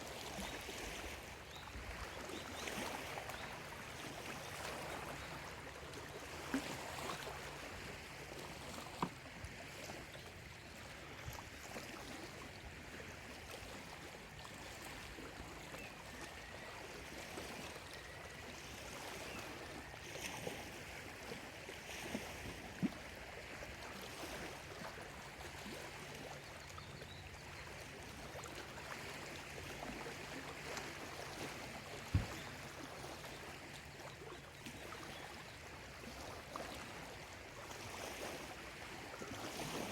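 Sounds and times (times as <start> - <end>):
lake waves lapping at shore: 0.0 - 39.9.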